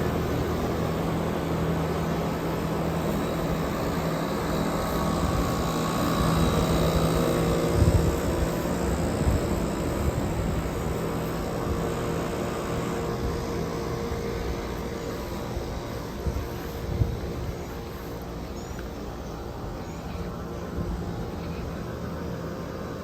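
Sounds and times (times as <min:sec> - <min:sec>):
air conditioners humming: 0:00.0 - 0:23.0.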